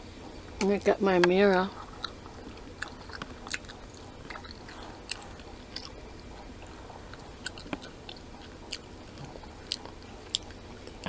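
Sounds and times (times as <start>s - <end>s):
low steady hum: 0.0s - 11.0s
person chewing food: 1.7s - 11.0s.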